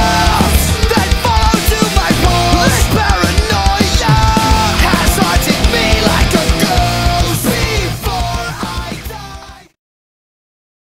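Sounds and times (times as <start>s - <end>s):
background music: 0.0s - 9.7s.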